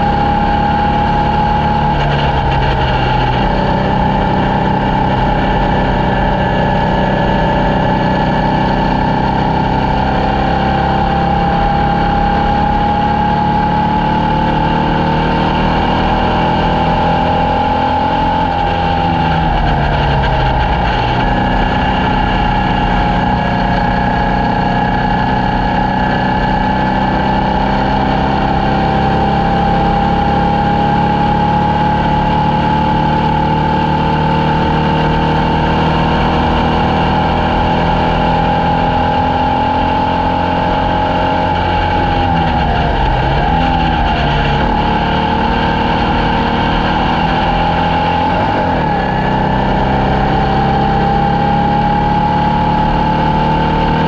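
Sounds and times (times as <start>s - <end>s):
race car engine running hard: 0.0s - 54.0s.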